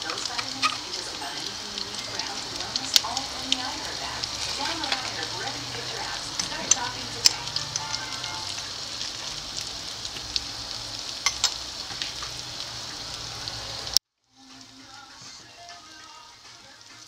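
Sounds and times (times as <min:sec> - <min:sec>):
faint background music: 0:00.0 - 0:09.7, 0:12.8 - 0:17.0
butter sizzling in a frying pan: 0:00.0 - 0:17.0.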